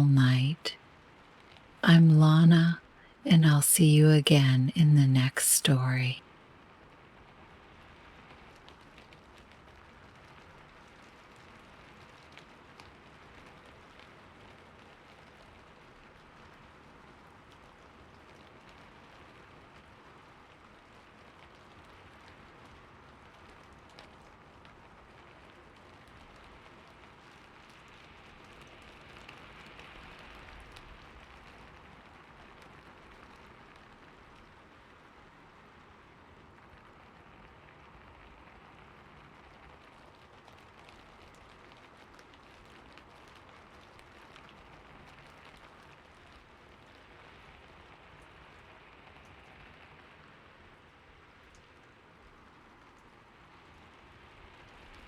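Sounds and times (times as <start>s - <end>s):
soft rain falling: 0.0s - 55.0s.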